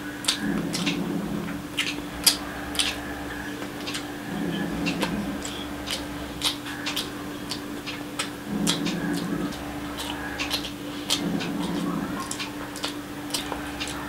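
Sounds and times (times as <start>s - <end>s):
short low hums: 0.0s - 14.0s
chewing with mouth clicks: 0.1s - 14.0s
fingers squishing rice: 1.8s - 14.0s.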